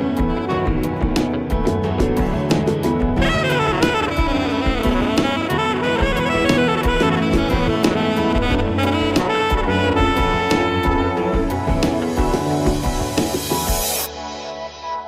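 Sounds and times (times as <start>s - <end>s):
drum kit beat: 0.0s - 14.1s
jazzy saxophone and brass tune: 0.0s - 14.1s.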